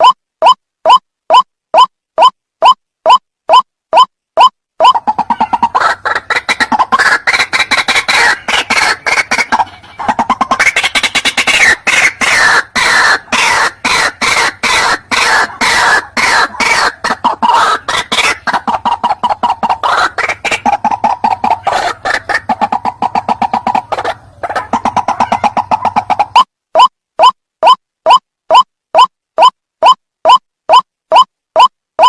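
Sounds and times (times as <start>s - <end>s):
bird calling repeated notes: 0.0s - 32.0s.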